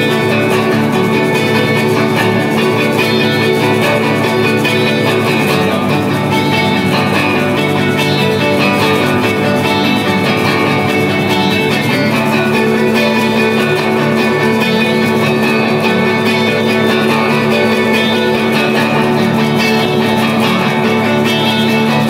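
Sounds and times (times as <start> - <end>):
guitar-led background music: 0.0 - 22.0.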